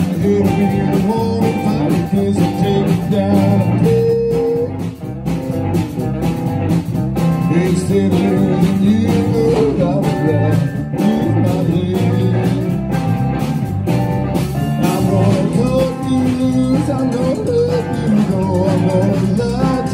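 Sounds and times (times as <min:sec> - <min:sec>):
blues band playing: 0:00.0 - 0:19.9
electric guitar lines: 0:00.0 - 0:19.9.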